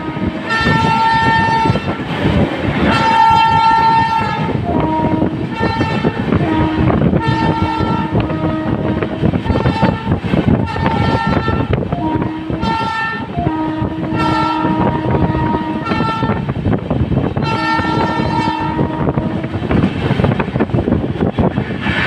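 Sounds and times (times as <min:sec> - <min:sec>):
locomotive air horn blasts: 0:00.0 - 0:16.6, 0:17.3 - 0:19.9
train wheels rumbling on track: 0:00.0 - 0:22.0.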